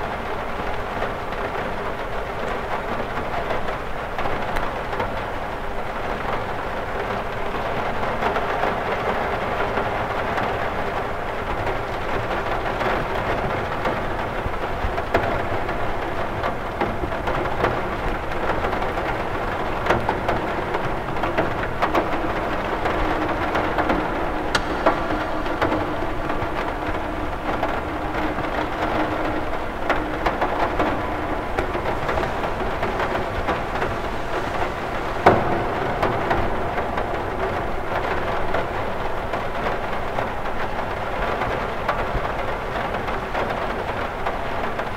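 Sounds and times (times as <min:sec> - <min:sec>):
rain hissing: 0:00.0 - 0:44.9.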